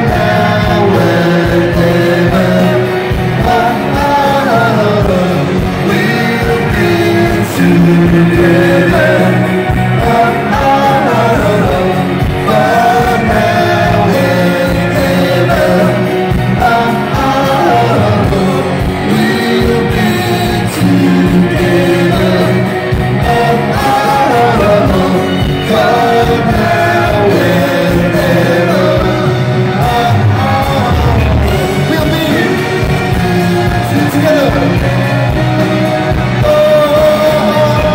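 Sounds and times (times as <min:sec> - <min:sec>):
bass guitar: 0:00.0 - 0:37.9
drums: 0:00.0 - 0:37.9
electric guitar: 0:00.0 - 0:37.9
person singing: 0:00.0 - 0:37.9.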